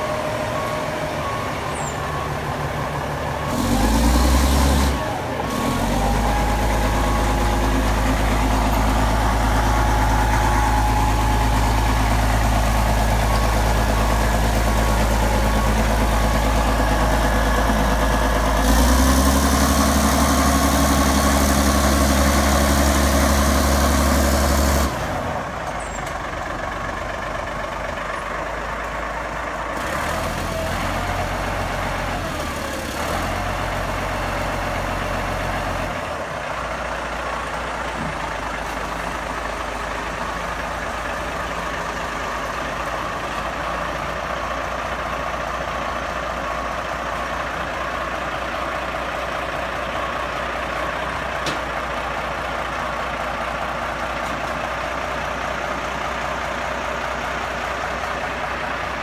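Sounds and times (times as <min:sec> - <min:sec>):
diesel loader engine revving: 0:00.0 - 0:59.0.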